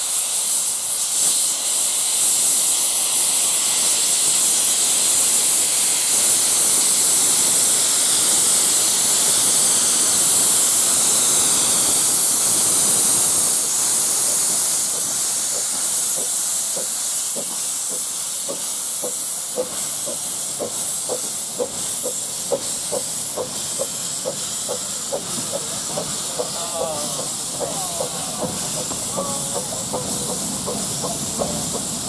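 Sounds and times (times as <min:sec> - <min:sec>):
loud continuous steam hiss: 0:00.0 - 0:32.0
steam locomotive chuffing beat: 0:00.0 - 0:32.0.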